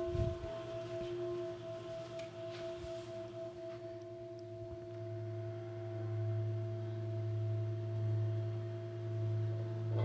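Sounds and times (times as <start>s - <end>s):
singing bowl ringing: 0.0s - 10.0s.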